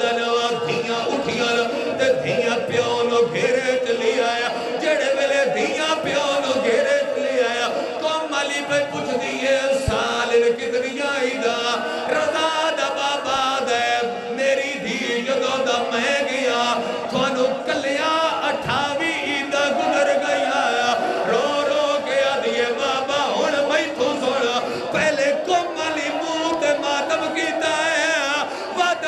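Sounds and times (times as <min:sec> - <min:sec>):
crowd of men chanting and wailing: 0:00.0 - 0:29.0.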